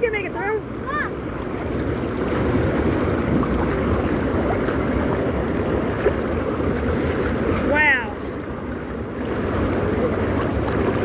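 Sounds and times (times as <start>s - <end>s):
water rushing and churning: 0.0s - 11.0s.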